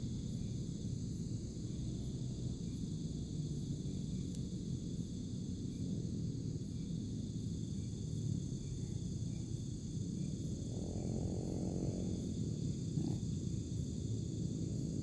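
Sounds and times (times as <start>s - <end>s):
faint drone: 0.0s - 15.0s
night insects chorus: 0.0s - 15.0s.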